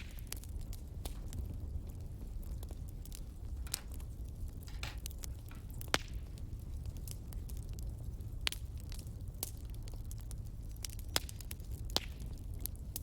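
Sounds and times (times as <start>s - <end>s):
low rumble of flames: 0.0s - 13.0s
wood fire crackling: 0.0s - 13.0s.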